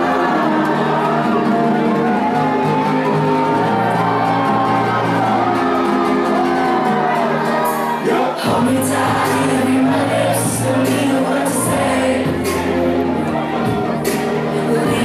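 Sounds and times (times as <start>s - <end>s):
person singing: 0.0s - 4.8s, 5.4s - 15.0s
electronic dance music: 0.0s - 15.0s.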